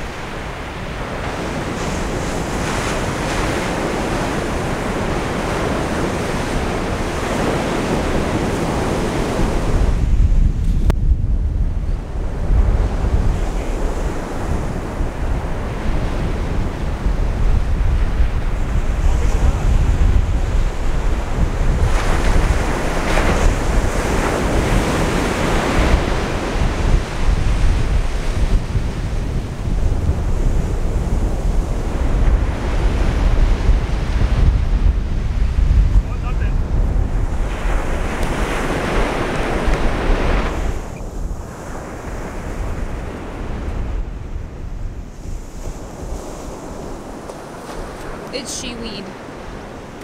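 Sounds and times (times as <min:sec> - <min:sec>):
ocean surf washing on beach: 0:00.0 - 0:50.0
wind buffeting microphone: 0:00.0 - 0:50.0.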